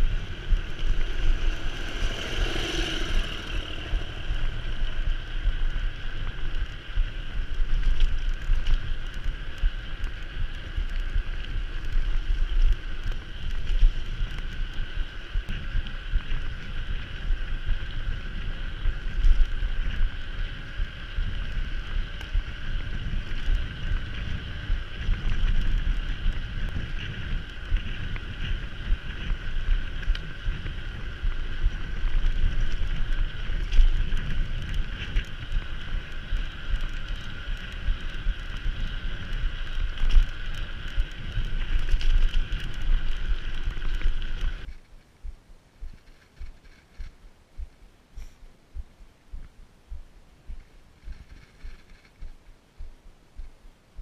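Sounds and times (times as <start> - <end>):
bike whirring: 0.0 - 54.0
wind rushing over microphone: 0.0 - 54.0.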